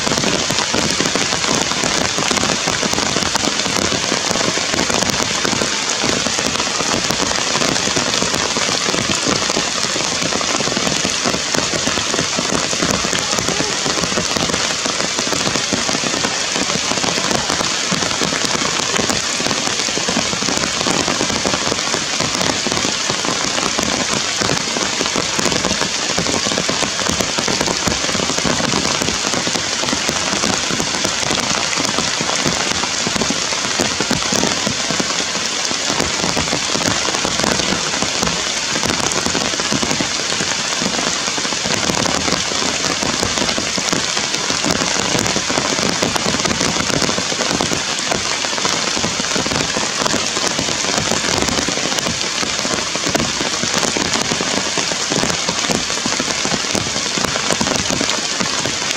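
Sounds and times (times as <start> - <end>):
heavy rain on foliage: 0.0 - 58.9.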